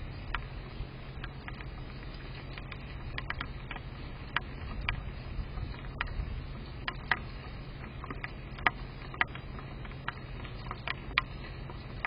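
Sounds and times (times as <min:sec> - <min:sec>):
rain rumble and hiss: 0:00.0 - 0:12.0
raindrops ticking on microphone: 0:00.0 - 0:12.0.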